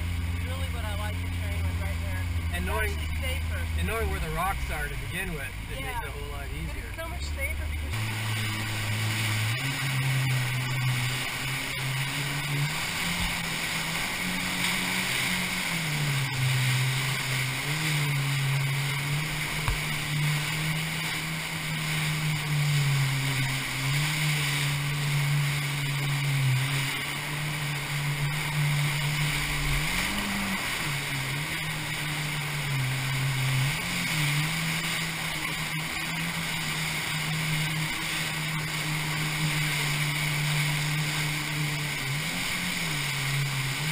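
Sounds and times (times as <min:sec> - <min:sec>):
jet ski engine revving: 0:00.0 - 0:43.9
rushing water and spray: 0:00.0 - 0:43.9.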